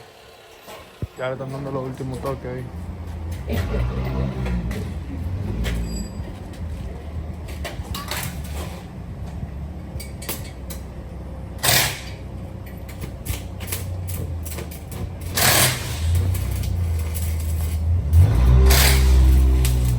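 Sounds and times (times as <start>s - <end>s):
steady low rumble: 1.1s - 19.9s.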